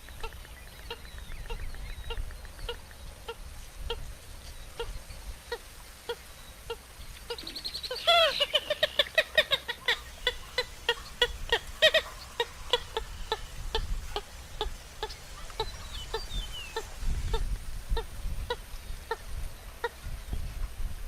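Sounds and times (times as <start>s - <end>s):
bird clucking calls: 0.0s - 20.4s.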